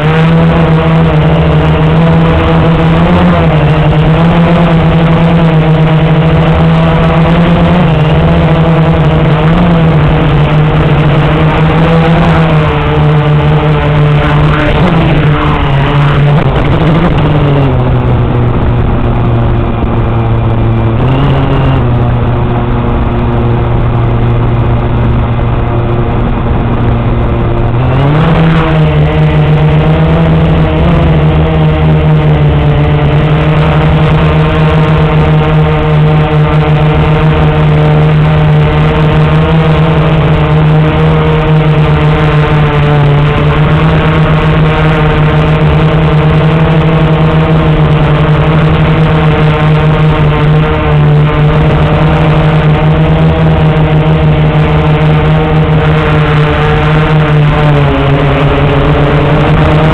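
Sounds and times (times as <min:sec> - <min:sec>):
quadcopter motors buzzing: 0:00.0 - 0:59.9.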